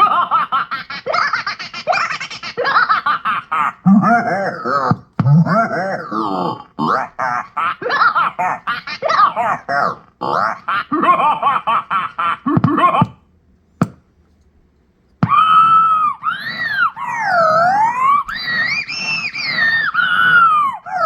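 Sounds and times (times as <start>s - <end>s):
toy playing stuttering evil laugh: 0.0s - 13.2s, 15.2s - 21.0s.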